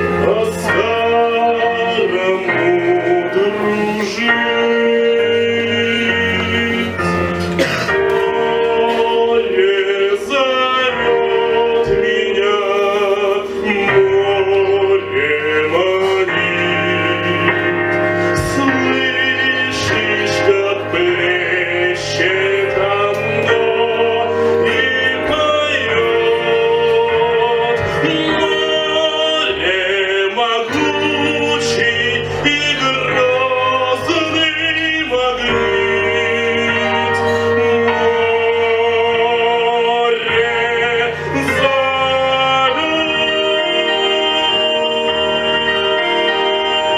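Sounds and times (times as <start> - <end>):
instrumental accompaniment: 0.0 - 46.9
man singing operatically: 0.0 - 46.9.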